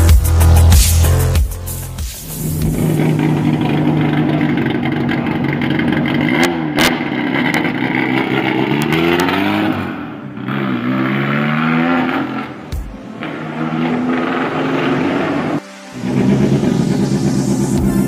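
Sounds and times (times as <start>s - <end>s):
car engine revving through gears: 2.4s - 18.0s.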